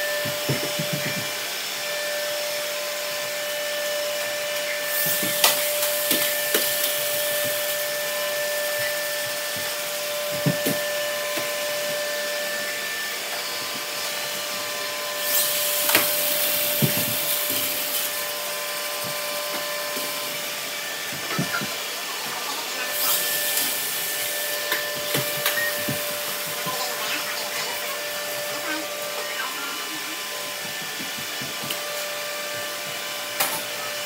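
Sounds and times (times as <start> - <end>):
robot vacuums whirring: 0.1 - 34.0.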